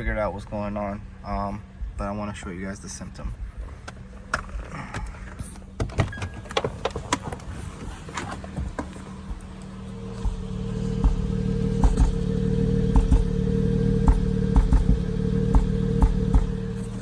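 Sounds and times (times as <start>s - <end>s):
misfiring car engine thumping: 1.6s - 2.2s, 2.9s - 17.0s.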